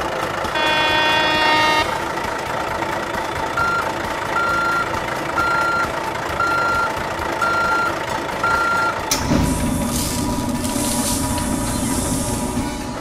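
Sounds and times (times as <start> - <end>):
truck reversing alarm beeps: 0.5 - 2.0, 3.4 - 13.0.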